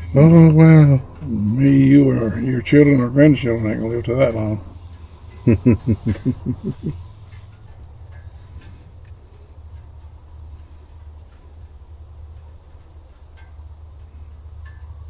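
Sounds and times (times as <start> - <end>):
faint clicks: 0.0 - 15.0
insects droning: 0.0 - 15.0.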